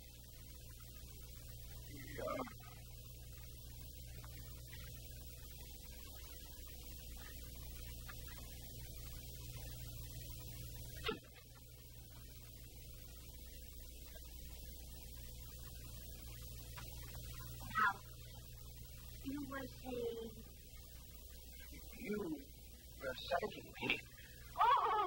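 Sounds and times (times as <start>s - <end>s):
thin steady tone: 0.0s - 25.0s.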